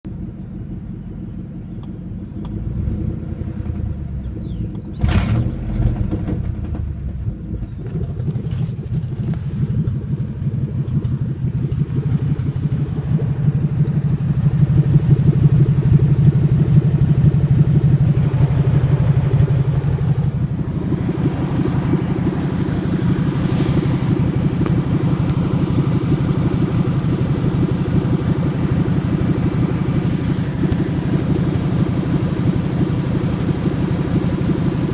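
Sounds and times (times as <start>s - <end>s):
car engine idling roughly: 4.4s - 34.9s.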